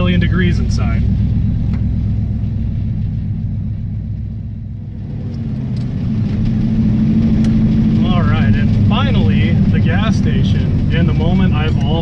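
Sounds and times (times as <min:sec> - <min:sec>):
car engine while driving: 0:00.0 - 0:12.0.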